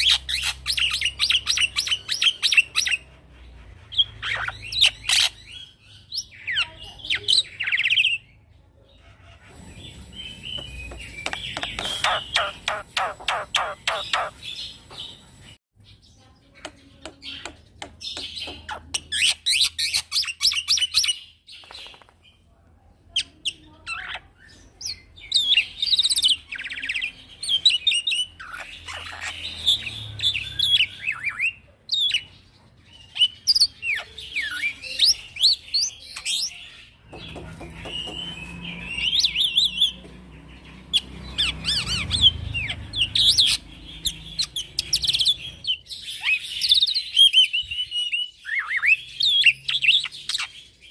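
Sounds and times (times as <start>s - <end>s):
starling singing chirps and trills: 0.0s - 50.9s.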